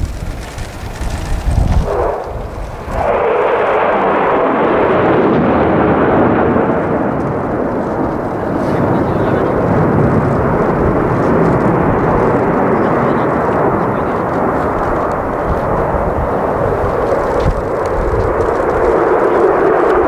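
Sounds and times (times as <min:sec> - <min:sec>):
fighter jet afterburner roar: 0:00.0 - 0:20.0.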